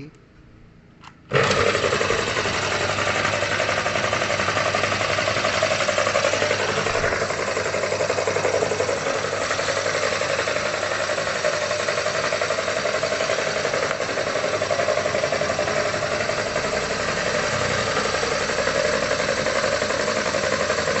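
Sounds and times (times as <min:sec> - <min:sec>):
grinder motor humming and rattling: 0:01.3 - 0:21.0.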